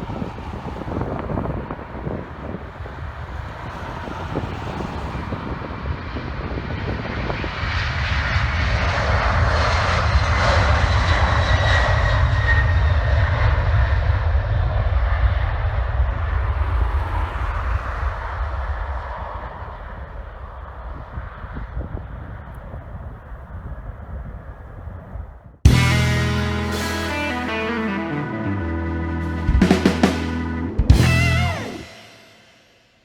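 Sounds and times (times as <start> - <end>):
jet engines rumbling: 0.0 - 22.3, 25.7 - 32.9.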